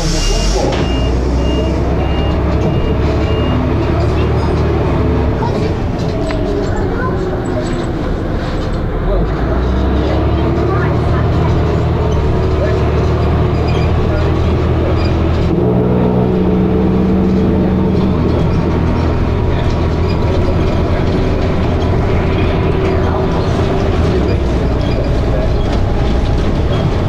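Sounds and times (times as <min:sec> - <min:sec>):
bus engine running: 0:00.0 - 0:27.0.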